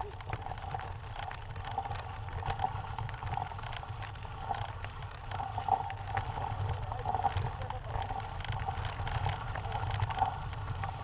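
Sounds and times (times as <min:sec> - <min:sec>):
bike clicks and rattles: 0:00.0 - 0:11.0
bike tyres rumbling on gravel: 0:00.0 - 0:11.0.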